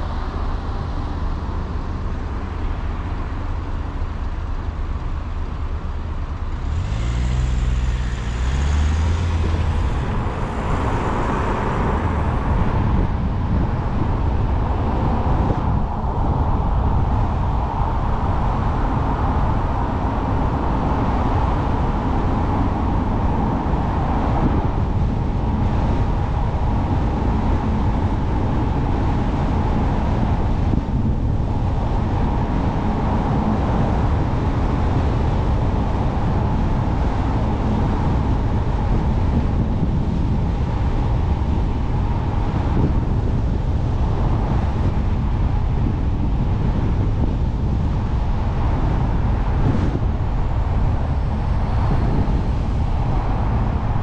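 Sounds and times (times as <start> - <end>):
car engine hum: 0.0 - 54.0
tyre and road noise: 0.0 - 54.0.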